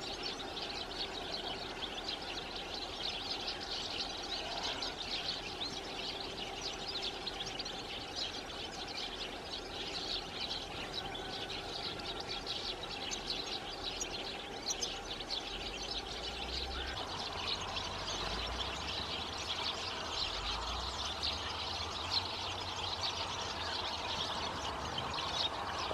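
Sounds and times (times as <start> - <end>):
goldfinches twittering: 0.0 - 25.9.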